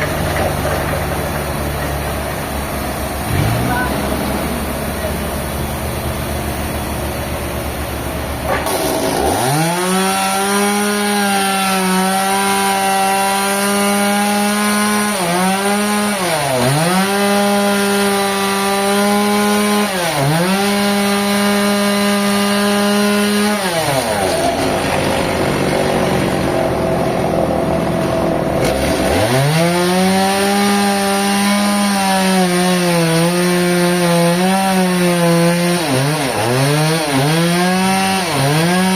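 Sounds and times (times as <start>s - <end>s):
engine-driven saw cutting log: 0.0s - 38.9s.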